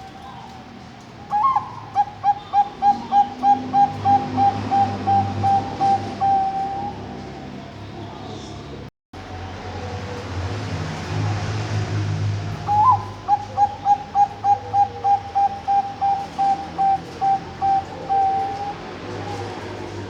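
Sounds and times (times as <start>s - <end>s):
dove cooing: 0.0s - 7.5s, 9.8s - 20.0s.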